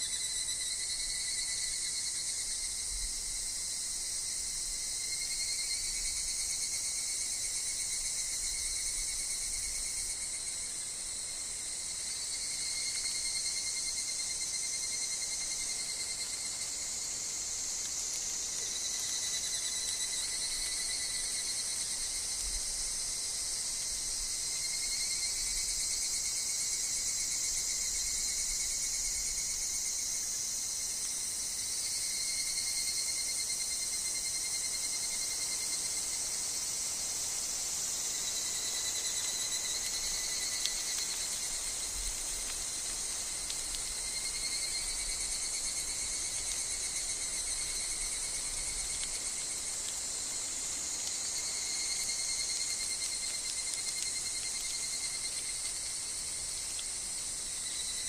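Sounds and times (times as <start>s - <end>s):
cicadas calling in chorus: 0.0s - 58.0s
low-pitched insect trill: 0.0s - 58.0s.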